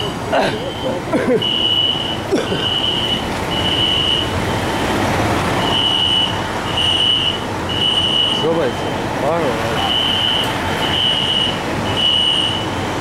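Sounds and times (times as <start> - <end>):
fire alarm beeping: 0.6 - 4.9, 5.6 - 9.1, 9.8 - 12.8.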